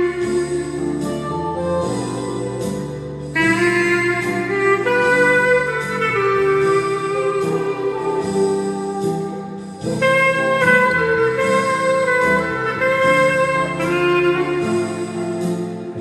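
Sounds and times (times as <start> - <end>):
clarinet playing hymn melody: 0.0 - 16.0
steady accompaniment: 0.0 - 16.0.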